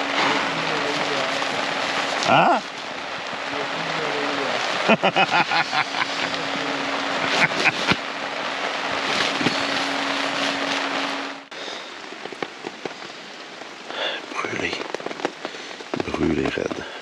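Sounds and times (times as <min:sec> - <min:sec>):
low hum: 0:00.0 - 0:13.8
rain hiss: 0:00.0 - 0:17.0
rain patter: 0:00.0 - 0:17.0.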